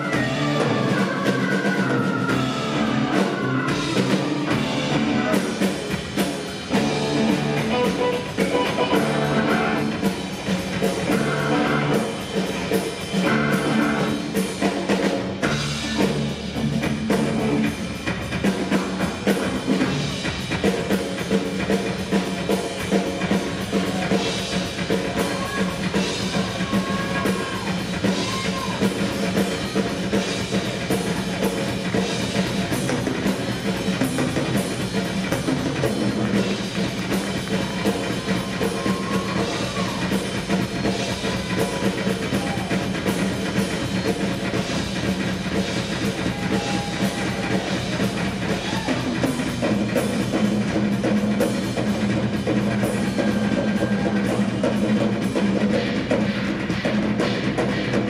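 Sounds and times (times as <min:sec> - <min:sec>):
drum kit with cymbals: 0:00.0 - 0:58.0
electric guitar: 0:00.0 - 0:58.0.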